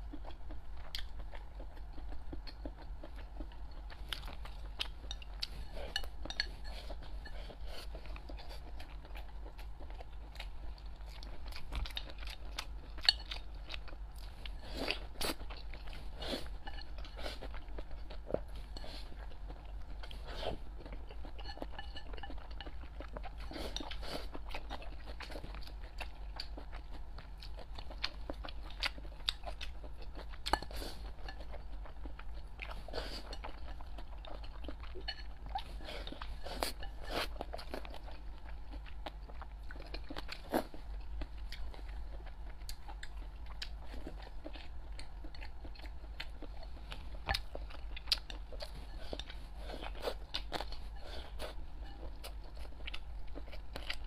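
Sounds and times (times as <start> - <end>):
person chewing and crunching food: 0.0 - 54.0
steady low hum: 0.0 - 54.0.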